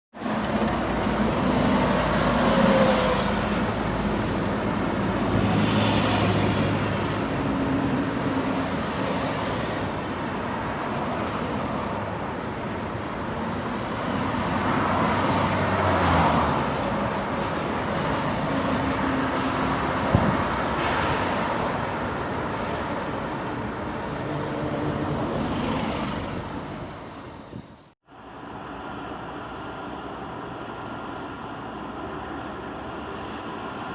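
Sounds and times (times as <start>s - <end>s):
road noise: 0.1s - 33.9s
cars passing: 0.2s - 33.9s.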